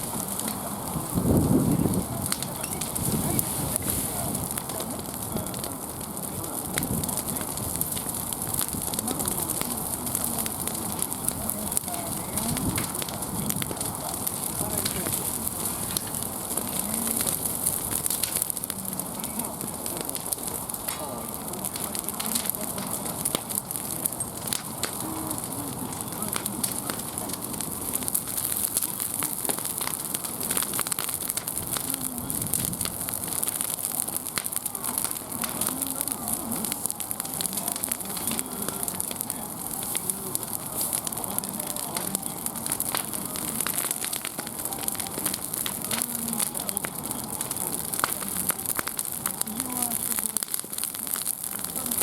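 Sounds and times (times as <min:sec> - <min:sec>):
bonfire crackling: 0:00.0 - 0:52.0.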